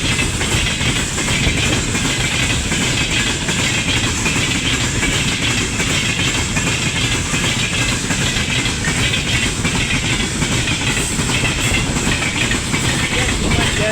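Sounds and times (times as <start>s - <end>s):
freight train wheels clattering: 0.0s - 13.9s
train rumble and hiss: 0.0s - 13.9s.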